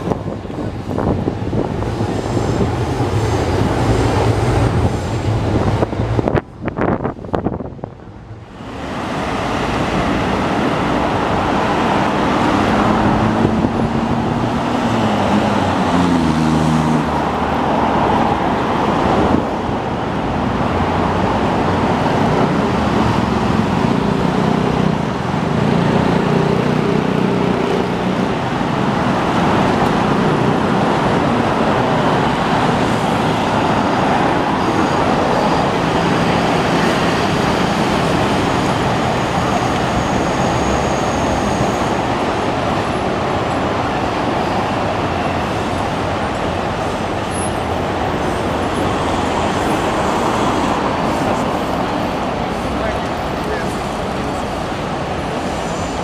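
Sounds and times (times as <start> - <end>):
passing vehicle engines: 0.0 - 56.0
road traffic at intersection: 0.0 - 56.0.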